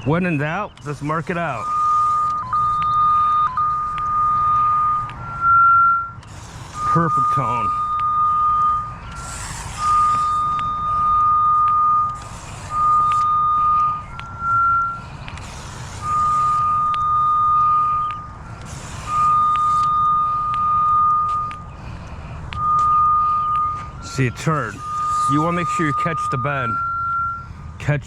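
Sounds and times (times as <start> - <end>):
cable locator high beep: 0.0 - 28.0.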